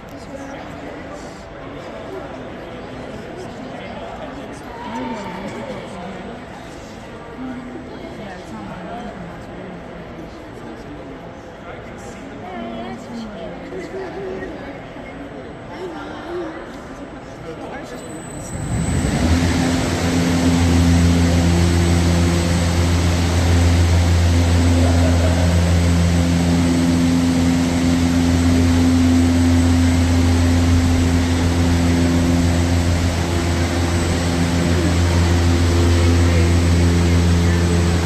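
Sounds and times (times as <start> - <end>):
fans rushing air with low drone: 0.0 - 38.0.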